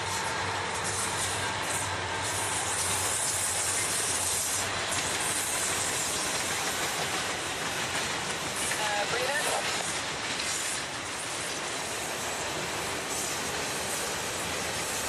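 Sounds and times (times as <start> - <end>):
diesel locomotive hum: 0.0 - 15.0
high hiss of rolling cars: 0.0 - 15.0
train wheels on rails: 0.0 - 15.0.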